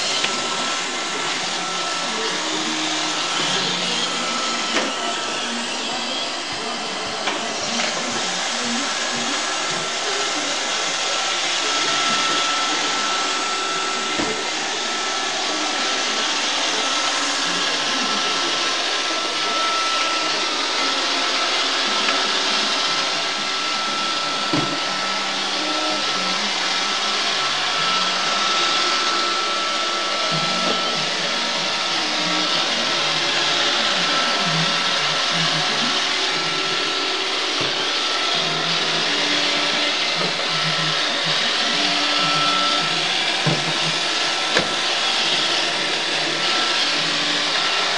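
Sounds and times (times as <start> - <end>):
robot vacuum running: 0.0 - 47.9.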